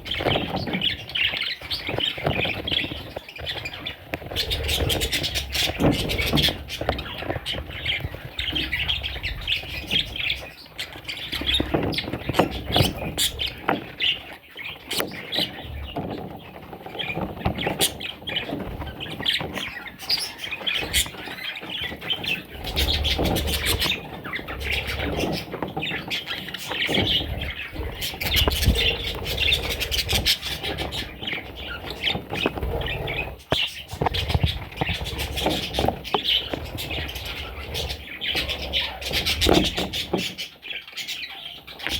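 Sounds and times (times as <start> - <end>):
budgerigars chirping and squawking: 0.0 - 41.9.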